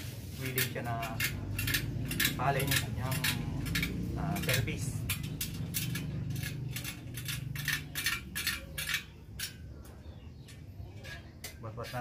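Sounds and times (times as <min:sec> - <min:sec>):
metal spokes clinking: 0:00.4 - 0:12.0.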